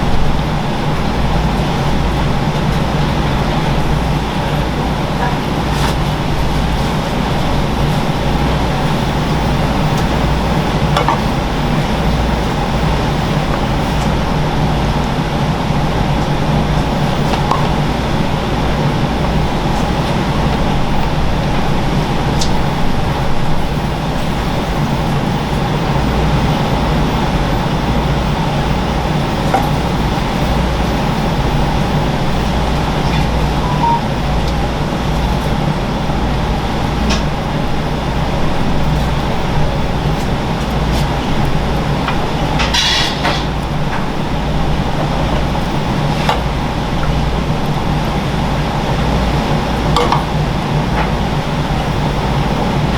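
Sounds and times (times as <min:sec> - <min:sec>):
mechanical hum and rumble: 0:00.0 - 0:52.9.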